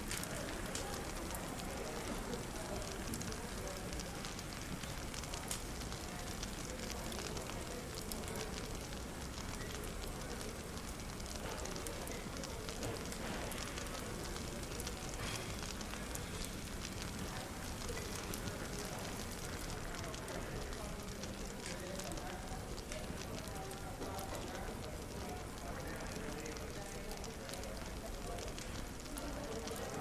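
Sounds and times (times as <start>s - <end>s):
faint murmur of voices: 0.0s - 30.0s
fireplace crackling and popping: 0.0s - 30.0s.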